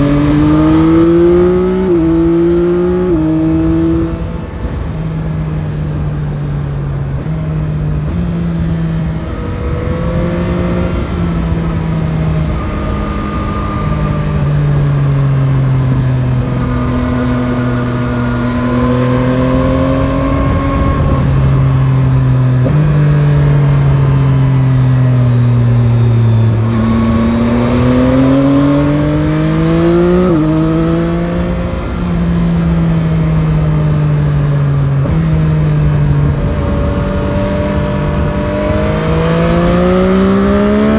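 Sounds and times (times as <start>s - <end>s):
motorcycle engine accelerating: 0.0s - 40.9s
wind and road rush: 0.0s - 40.9s.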